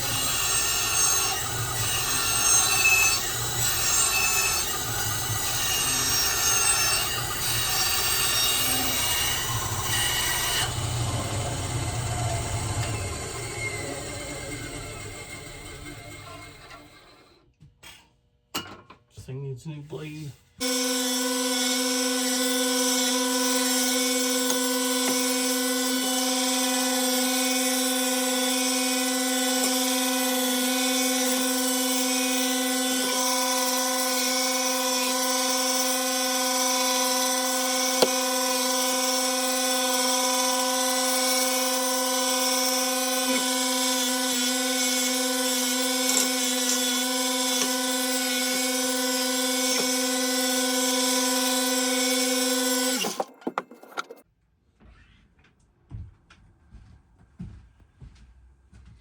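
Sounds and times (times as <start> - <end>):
power tool motor humming: 0.0 - 17.3, 20.6 - 53.6.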